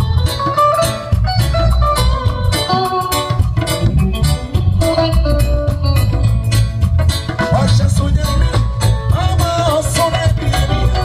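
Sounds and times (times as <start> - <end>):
live gospel band playing: 0.0 - 11.0.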